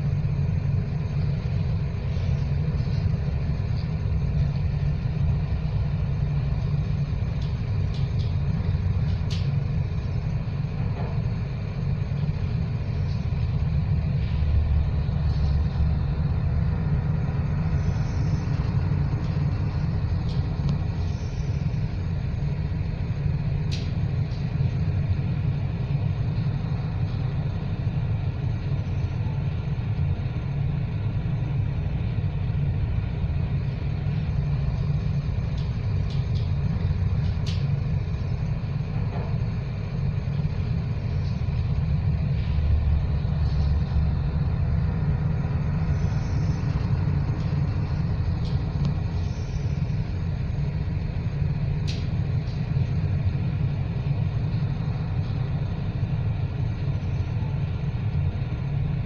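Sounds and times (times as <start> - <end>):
wind at sea: 0.0 - 59.0.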